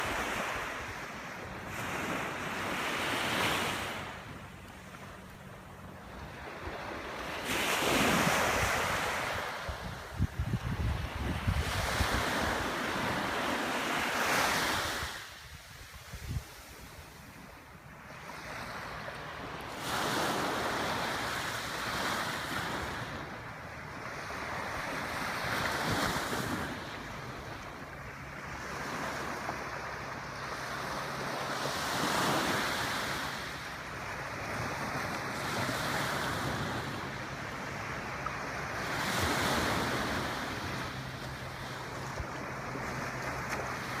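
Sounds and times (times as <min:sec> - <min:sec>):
small waves washing on beach: 0:00.0 - 0:44.0.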